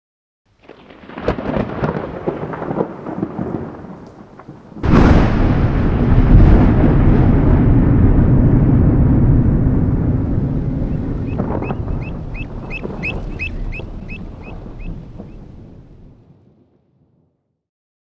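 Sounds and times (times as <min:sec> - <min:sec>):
loud thunderclap: 0:00.6 - 0:16.8
thunder rumbling: 0:00.6 - 0:17.2.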